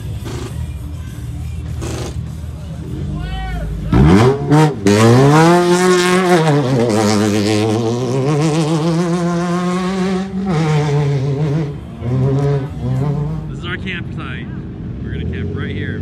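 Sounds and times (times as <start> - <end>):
engine running at high revs: 0.0 - 16.0.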